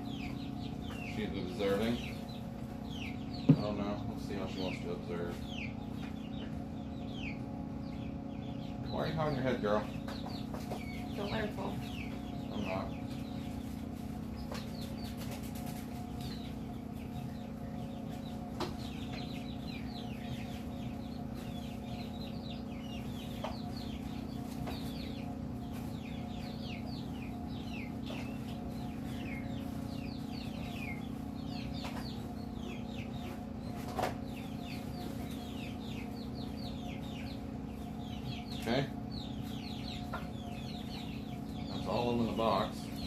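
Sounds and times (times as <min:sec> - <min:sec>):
chick peeping: 0:00.0 - 0:43.0
steady low hum: 0:00.0 - 0:43.0.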